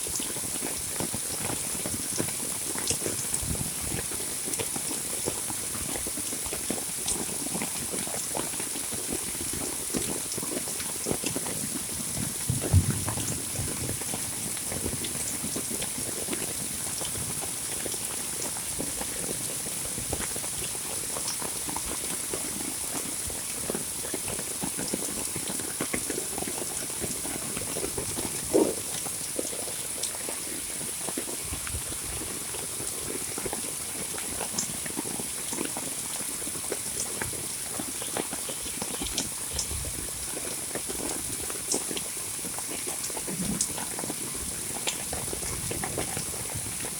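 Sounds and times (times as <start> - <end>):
close raindrops tapping: 0.1 - 46.9
heavy rain falling: 0.8 - 46.9.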